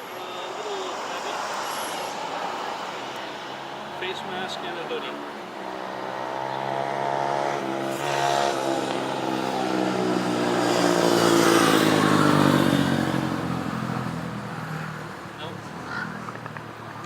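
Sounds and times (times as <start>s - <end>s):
vehicle driving past: 0.1s - 16.4s.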